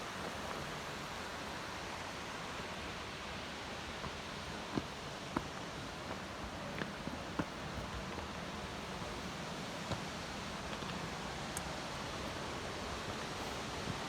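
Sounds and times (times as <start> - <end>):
water rushing in gorge: 0.8 - 14.0.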